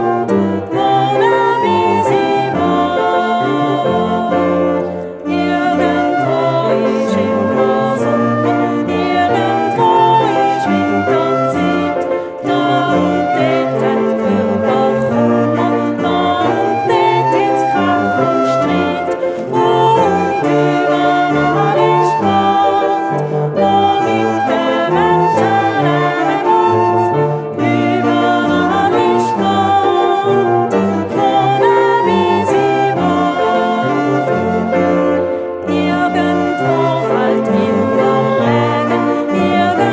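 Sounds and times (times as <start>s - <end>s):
song with singing: 0.0s - 39.9s.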